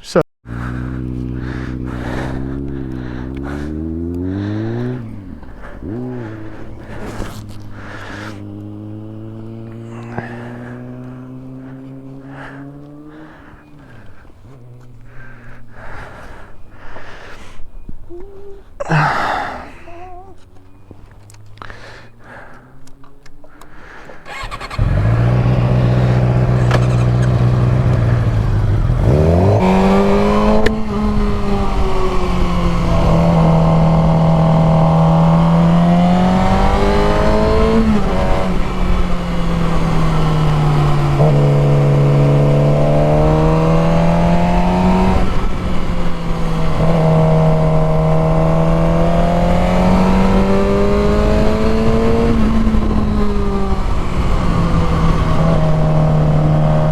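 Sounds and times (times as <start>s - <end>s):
motorcycle engine revving: 0.4s - 17.3s, 18.1s - 56.9s.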